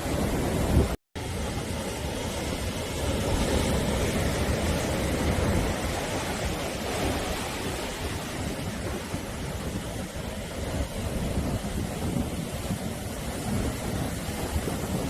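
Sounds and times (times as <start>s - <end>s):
sea surf washing ashore: 0.0s - 15.0s.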